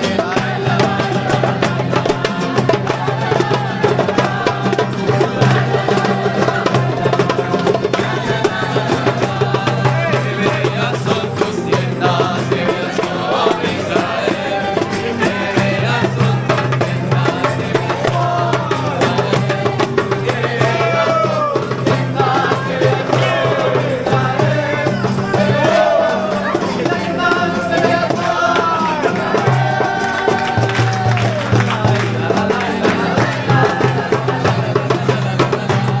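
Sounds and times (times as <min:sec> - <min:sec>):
fast shaken percussion: 0:00.0 - 0:36.0
person singing: 0:00.0 - 0:36.0.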